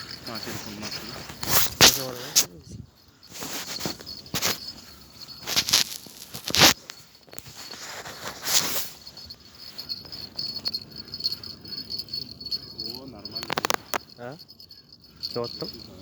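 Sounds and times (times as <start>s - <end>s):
insects chirring: 0.0s - 16.0s
rustling: 0.0s - 16.0s.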